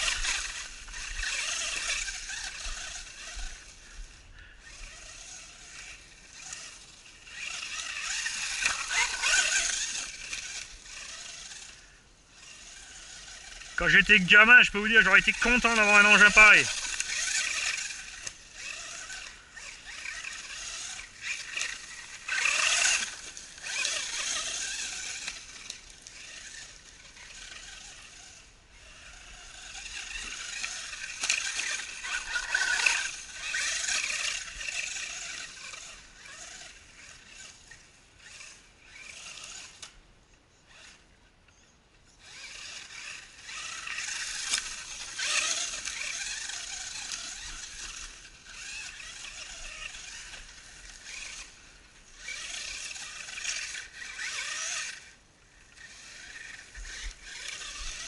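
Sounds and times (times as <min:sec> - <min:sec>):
electric motor and gears whining: 0:00.0 - 0:58.0.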